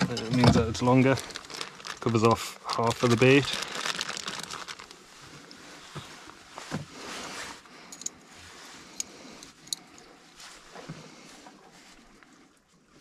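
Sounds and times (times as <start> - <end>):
soft rustling of bait handling: 0.6 - 13.0.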